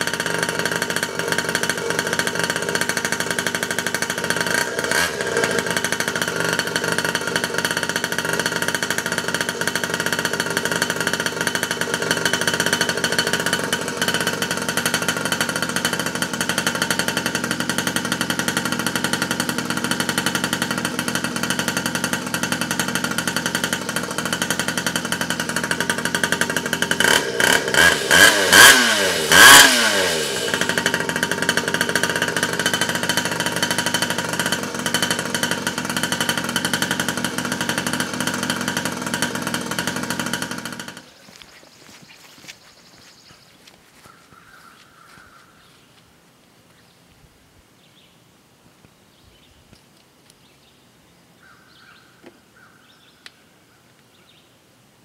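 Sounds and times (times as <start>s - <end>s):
two-stroke engine running and revving: 0.0s - 45.4s.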